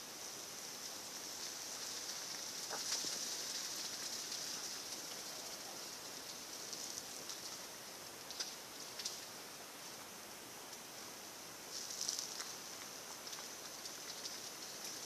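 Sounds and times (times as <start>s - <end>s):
high-pitched forest hiss: 0.0s - 15.0s.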